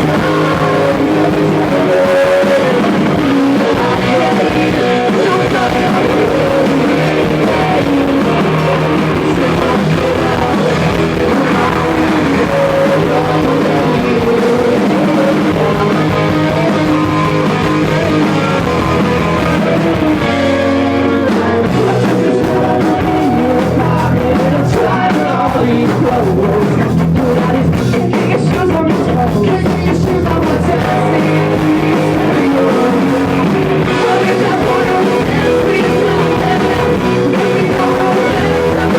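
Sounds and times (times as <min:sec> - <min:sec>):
electric guitar: 0:00.0 - 0:38.9
live rock band playing: 0:00.0 - 0:38.9
person singing: 0:00.0 - 0:38.9.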